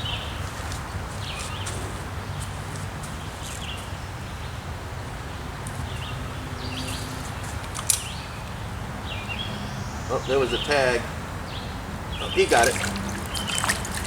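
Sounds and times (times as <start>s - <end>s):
small birds chirping: 0.0s - 4.6s, 5.4s - 14.0s.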